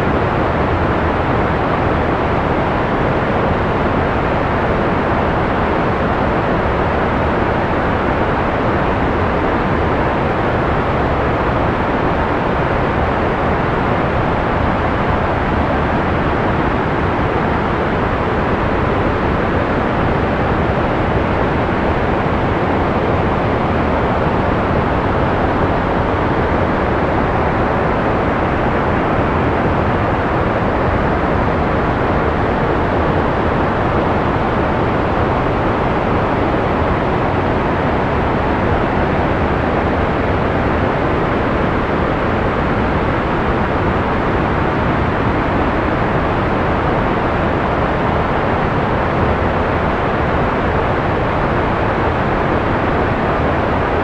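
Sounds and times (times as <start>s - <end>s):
muffled white noise: 0.0s - 54.0s.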